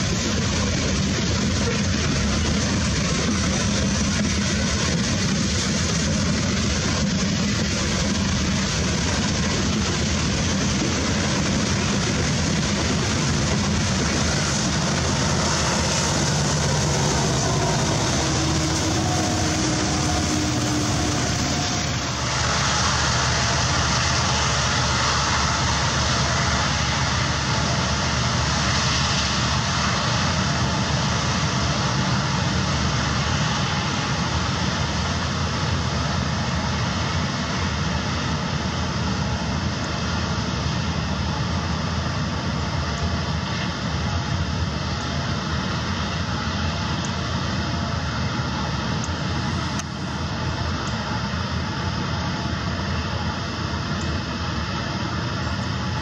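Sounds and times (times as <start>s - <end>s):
diesel locomotive drone: 0.0s - 56.0s
train cars rumbling past: 0.0s - 56.0s
faint high whine: 10.8s - 56.0s.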